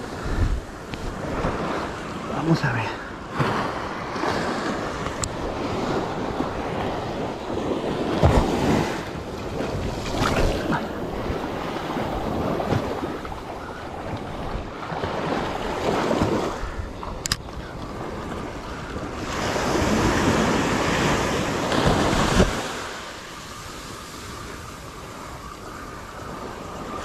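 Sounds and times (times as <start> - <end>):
wind buffeting microphone: 0.0 - 2.2, 3.3 - 23.0
surf washing on a beach: 0.0 - 27.0.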